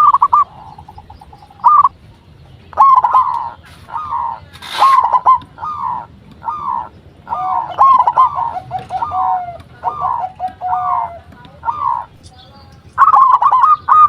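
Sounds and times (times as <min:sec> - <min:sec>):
doves cooing: 0:00.0 - 0:14.0.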